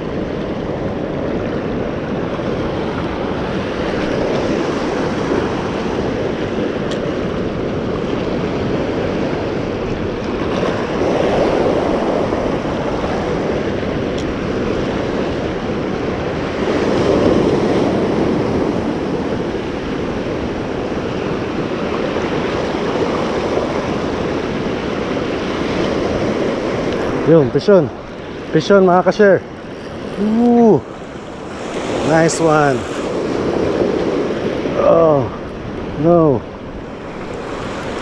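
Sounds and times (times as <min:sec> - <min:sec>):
ocean surf washing over rocks: 0:00.0 - 0:38.0.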